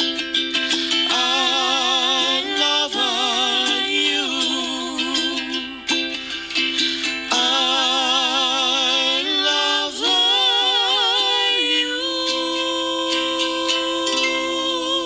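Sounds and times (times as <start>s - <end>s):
pop song: 0.0s - 15.0s
wordless singing with vibrato: 0.0s - 15.0s.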